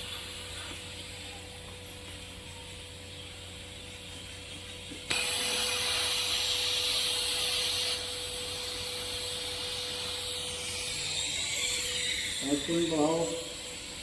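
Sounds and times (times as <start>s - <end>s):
welding arc hissing: 0.0s - 14.0s
welding machine hum: 0.0s - 14.0s.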